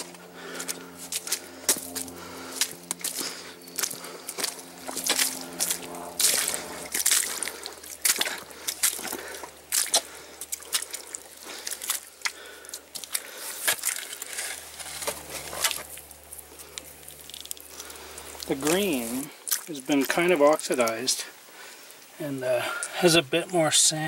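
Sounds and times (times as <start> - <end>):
footsteps squelching in mud: 0.0 - 23.0.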